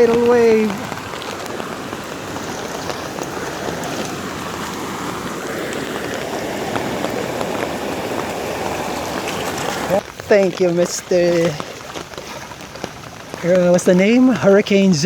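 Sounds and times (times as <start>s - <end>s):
rain: 0.0s - 15.0s
rushing floodwater: 0.0s - 15.0s.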